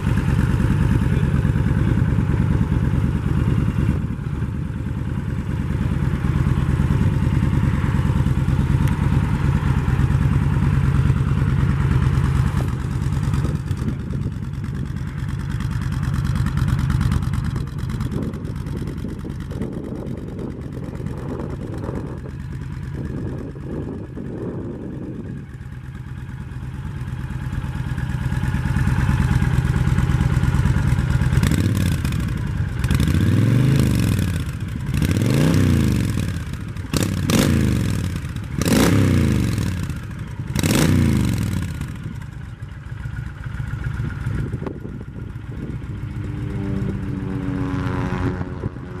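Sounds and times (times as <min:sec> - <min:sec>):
motorcycle engine idling and revving: 0:00.0 - 0:49.0.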